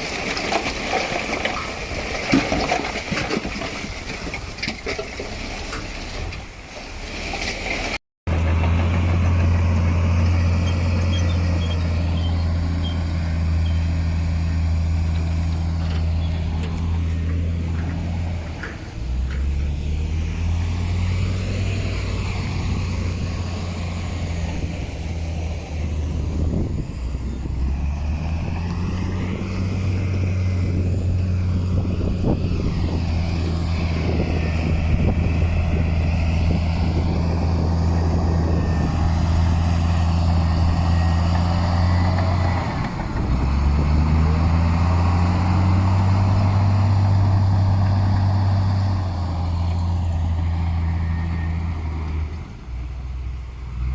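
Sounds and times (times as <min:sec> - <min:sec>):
diesel engine running under load: 0:08.2 - 0:53.9.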